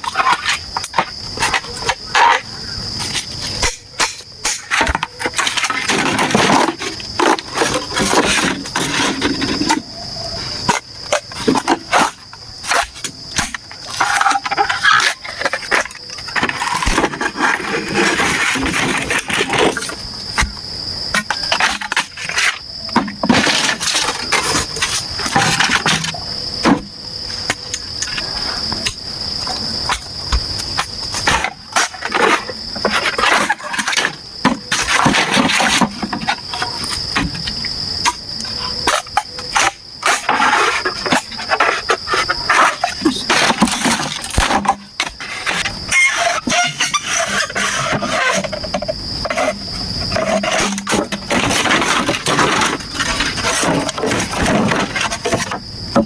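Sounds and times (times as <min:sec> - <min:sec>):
high-pitched insect drone: 0:00.0 - 0:56.0
knocks clicks and scraping: 0:10.6 - 0:56.0.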